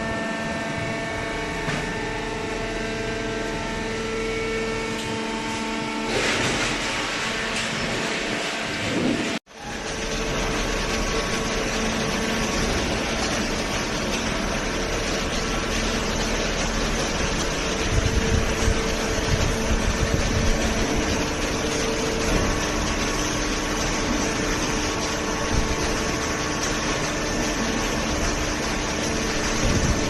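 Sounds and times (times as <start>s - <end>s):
baler pump and motor hum: 0.0s - 30.0s.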